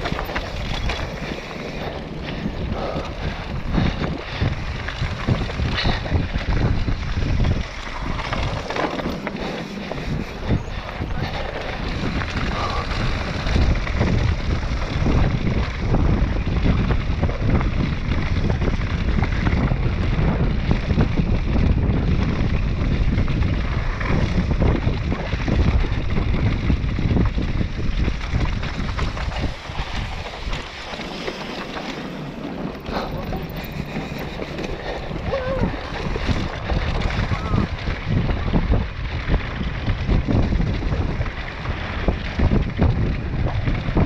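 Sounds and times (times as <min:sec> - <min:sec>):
tyres crunching over stones: 0:00.0 - 0:20.3, 0:23.3 - 0:44.0
bike frame rattling: 0:00.0 - 0:44.0
wind rushing over microphone: 0:00.0 - 0:44.0.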